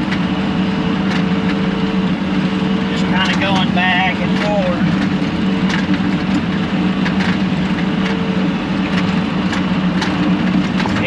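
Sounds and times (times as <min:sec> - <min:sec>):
diesel engine running under load: 0:00.0 - 0:11.0
tracks and bucket clanking: 0:01.0 - 0:11.0.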